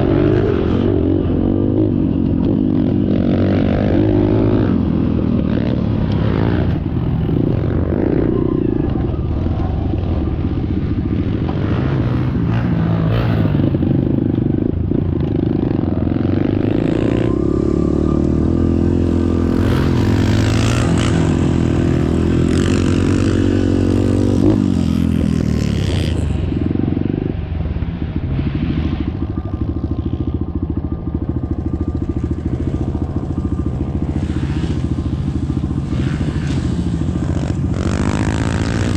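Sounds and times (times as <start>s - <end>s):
dirt bike engine revving: 0.0s - 27.3s, 28.0s - 38.9s.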